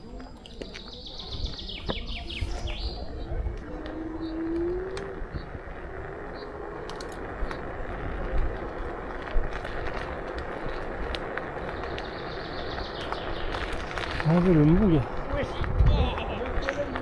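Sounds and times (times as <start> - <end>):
scooter tyres rolling on pavement: 0.0 - 17.0
wind rumbling on microphone: 0.0 - 17.0.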